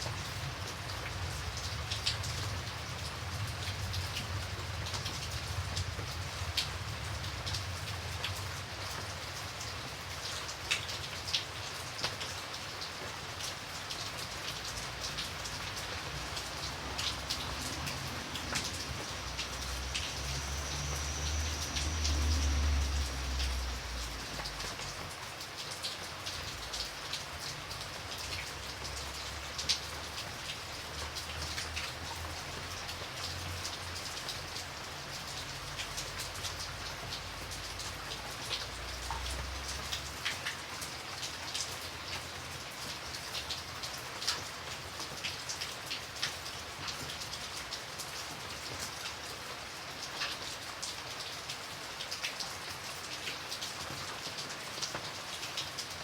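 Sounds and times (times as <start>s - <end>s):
raindrops ticking on a surface: 0.0s - 56.0s
steady rain: 0.0s - 56.0s.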